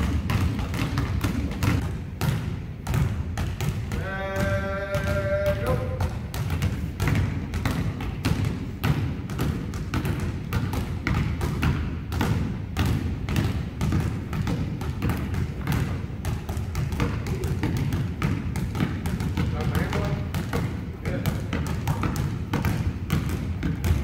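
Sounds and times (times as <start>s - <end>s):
basketballs bouncing on hardwood: 0.0s - 24.0s.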